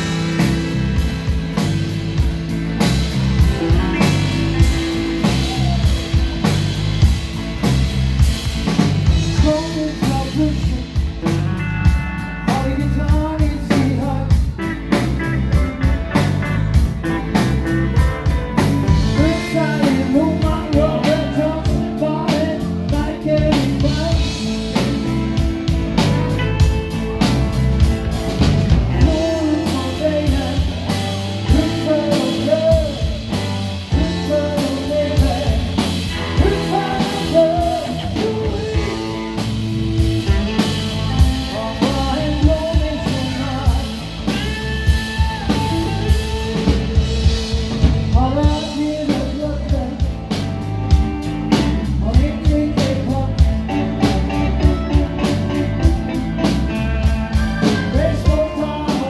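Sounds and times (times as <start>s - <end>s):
drum kit: 0.0s - 59.0s
electric bass: 0.0s - 59.0s
electric guitars: 0.0s - 59.0s
man singing: 9.0s - 59.0s.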